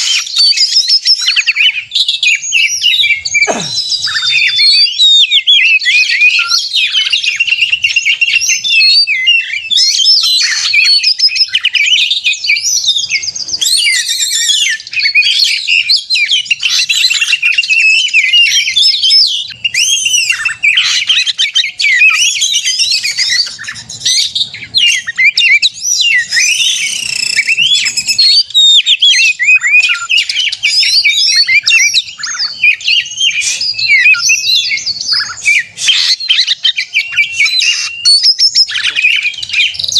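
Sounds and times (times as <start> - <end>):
bird singing varied whistles: 0.0 - 39.9.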